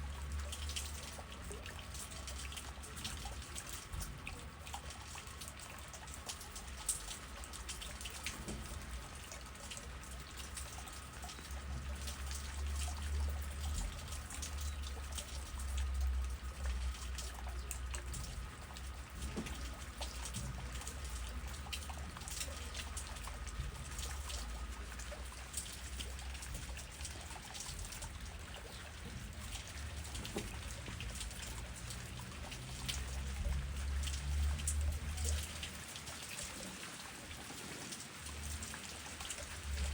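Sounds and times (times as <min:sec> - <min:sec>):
low rumble of wind: 0:00.0 - 0:39.9
rain falling through trees: 0:00.0 - 0:39.9.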